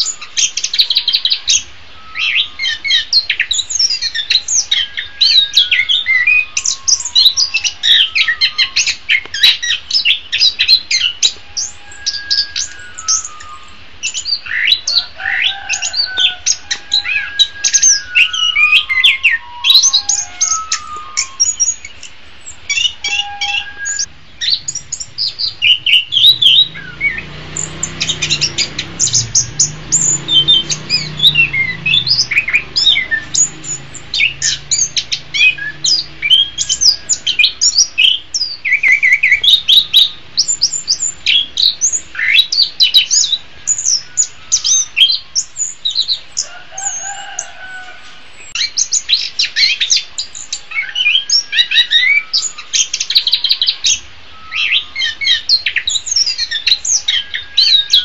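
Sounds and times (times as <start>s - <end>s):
thrush singing: 0.0s - 47.5s.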